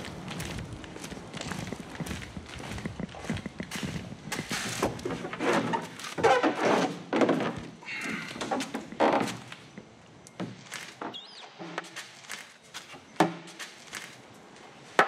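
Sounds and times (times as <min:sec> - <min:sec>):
footsteps on concrete: 0:00.0 - 0:06.2, 0:07.6 - 0:14.8.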